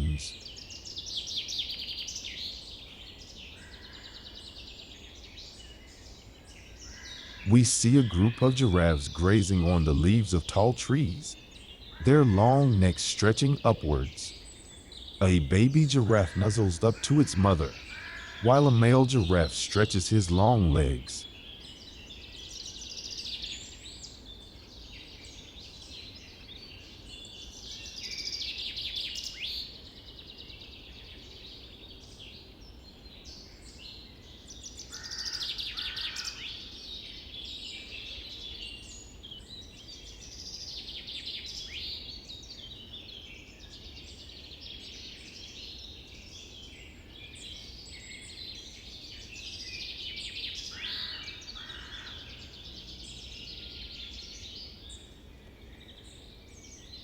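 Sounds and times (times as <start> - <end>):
wild birds chirping: 0.0 - 57.0.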